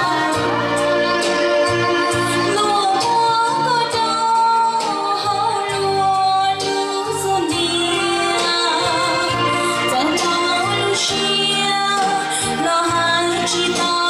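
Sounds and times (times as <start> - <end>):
backing music with bass: 0.0 - 14.0
woman singing: 0.0 - 14.0.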